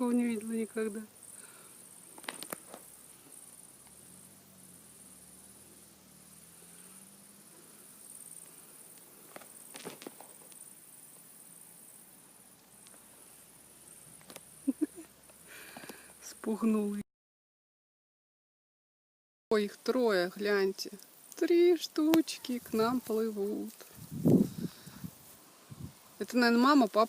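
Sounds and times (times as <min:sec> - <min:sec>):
insects chirring: 0:00.0 - 0:17.0, 0:19.5 - 0:27.0.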